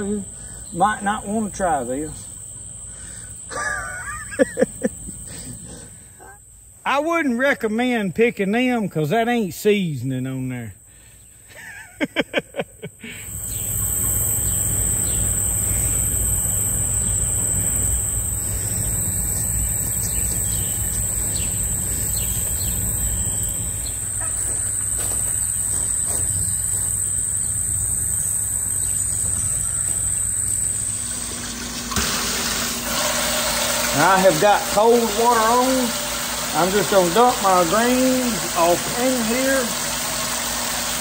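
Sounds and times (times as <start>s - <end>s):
high-pitched insect chorus: 0.0s - 31.6s, 33.8s - 39.7s.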